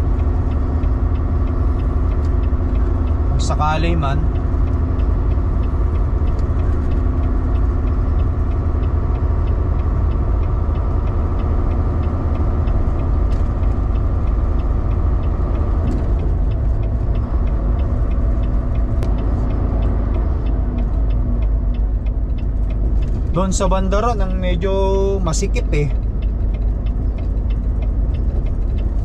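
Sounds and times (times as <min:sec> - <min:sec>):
light regular ticking: 0:00.0 - 0:29.0
truck engine and road rumble: 0:00.0 - 0:29.0.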